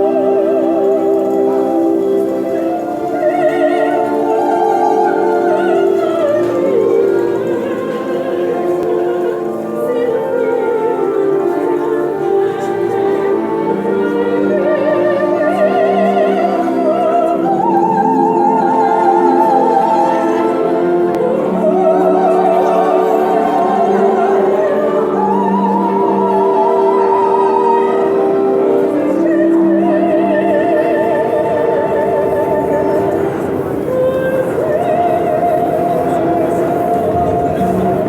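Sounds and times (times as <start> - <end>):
sustained low accompaniment: 0.0 - 38.0
woman singing opera: 0.0 - 38.0.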